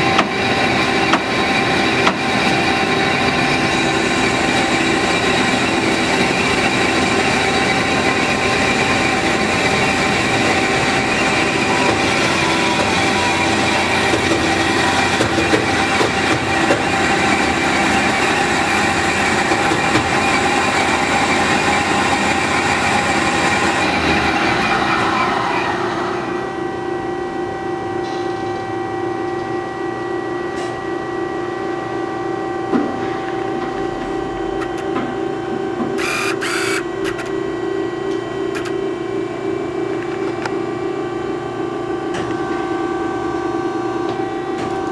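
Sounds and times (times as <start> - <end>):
band saw running: 0.0 - 27.1, 33.0 - 44.9.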